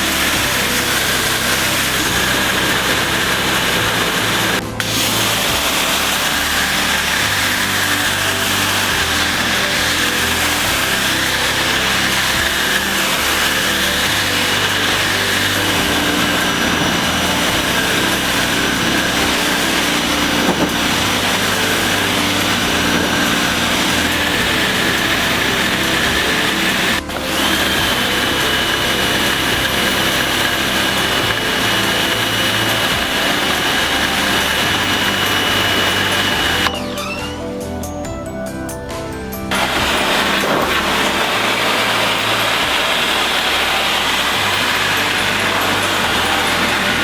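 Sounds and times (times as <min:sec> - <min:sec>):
pressure washer spraying: 0:00.0 - 0:36.8, 0:39.5 - 0:47.0.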